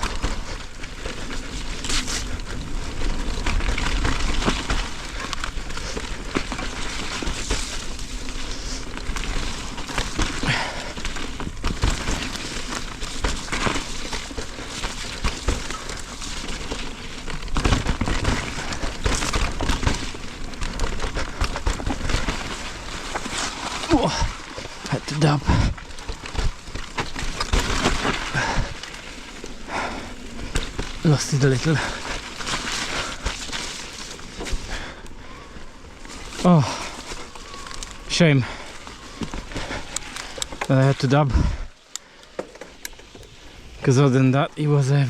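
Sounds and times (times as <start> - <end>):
bike knocking and rattling: 0.0 - 44.2
tyres crackling over mud: 0.0 - 45.0.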